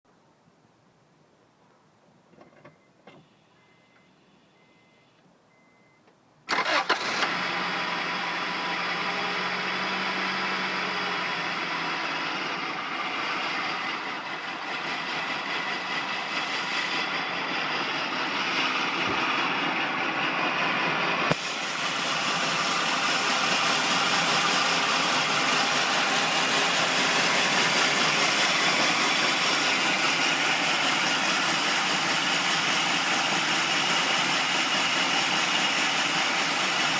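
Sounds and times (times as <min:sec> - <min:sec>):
car engine starting and idling: 0:05.7 - 0:36.9.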